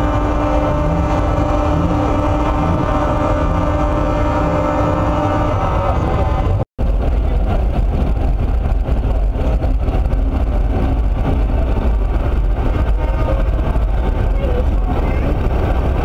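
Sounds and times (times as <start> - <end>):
heavy truck engines rumbling: 0.0 - 16.0.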